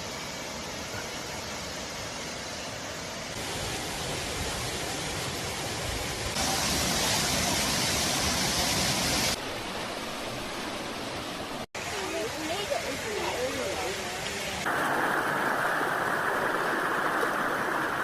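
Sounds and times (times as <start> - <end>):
waterfall roaring: 3.3 - 18.0.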